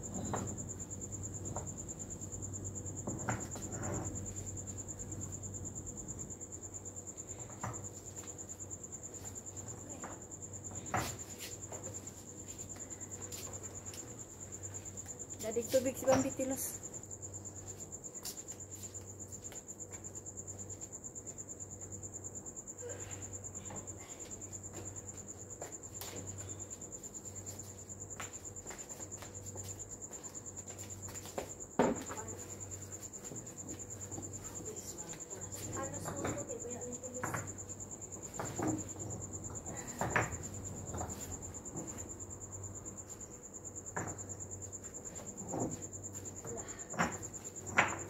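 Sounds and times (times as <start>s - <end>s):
cricket trilling: 0.0s - 48.0s.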